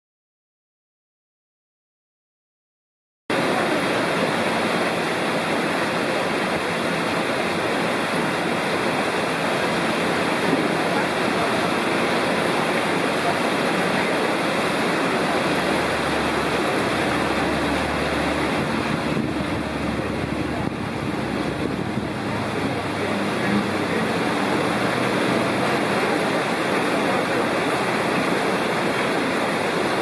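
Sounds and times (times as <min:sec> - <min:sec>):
water rushing into a pool: 0:03.3 - 0:30.0
fish churning water surface: 0:03.5 - 0:30.0.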